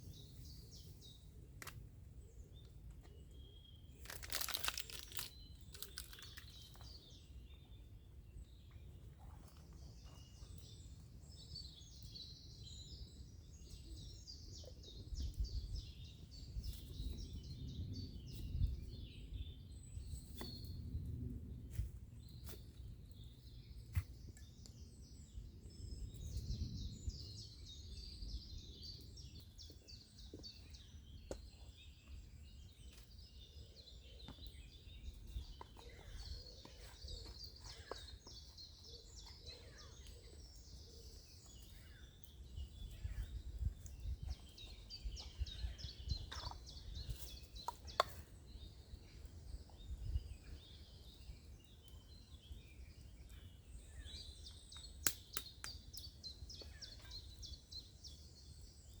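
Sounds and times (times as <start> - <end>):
small birds singing: 0.0 - 59.0.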